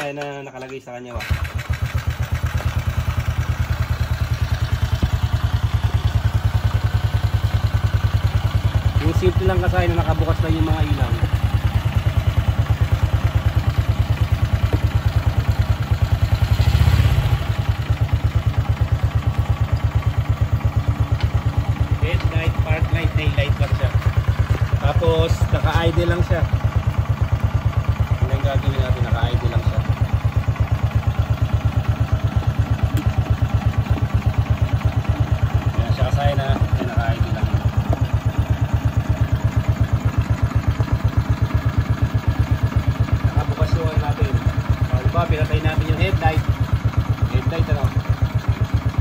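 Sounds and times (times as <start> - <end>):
motorcycle engine idling: 0.0 - 49.0.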